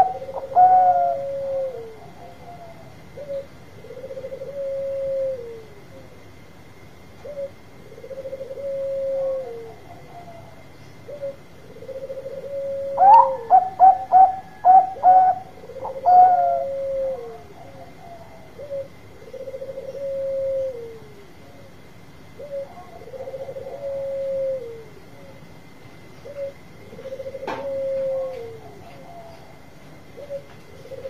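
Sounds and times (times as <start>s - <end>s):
dove cooing: 0.0s - 6.4s, 7.2s - 31.0s.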